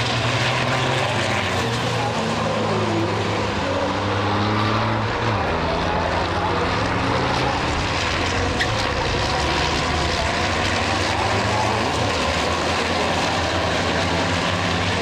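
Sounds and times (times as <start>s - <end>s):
diesel truck engines at speed: 0.0s - 15.0s.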